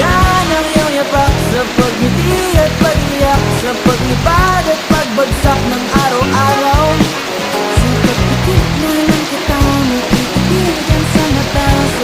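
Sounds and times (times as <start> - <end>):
pop song with vocals: 0.0 - 12.0
steady drum beat: 0.0 - 12.0.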